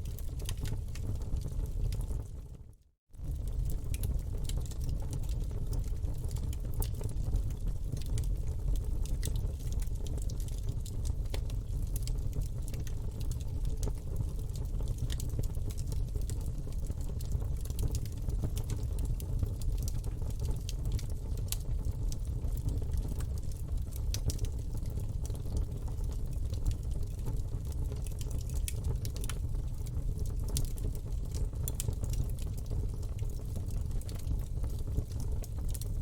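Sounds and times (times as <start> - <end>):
burning wood crackling and popping: 0.0 - 2.2, 3.2 - 8.5, 9.1 - 35.9
low rumble of flame: 0.0 - 36.0.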